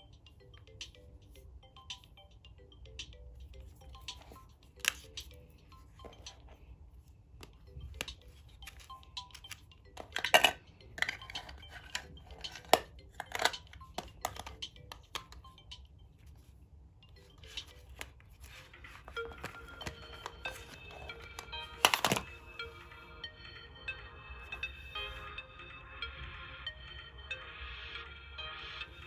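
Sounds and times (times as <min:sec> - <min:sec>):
faint phone alarm melody: 0:00.0 - 0:29.0.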